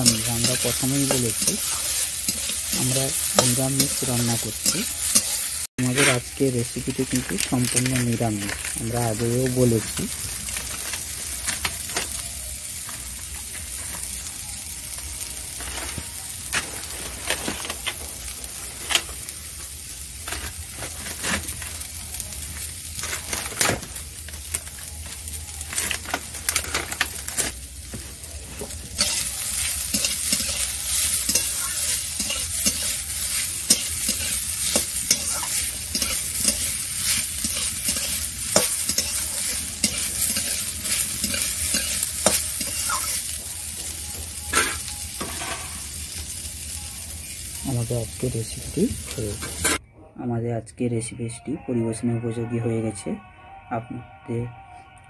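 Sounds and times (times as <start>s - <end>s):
greens sizzling in a wok: 0.0s - 49.8s.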